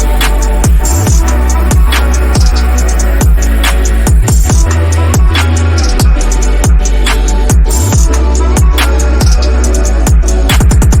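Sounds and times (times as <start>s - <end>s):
electronic music with heavy bass: 0.0s - 11.0s
pitch-dropping kick drums: 0.0s - 11.0s.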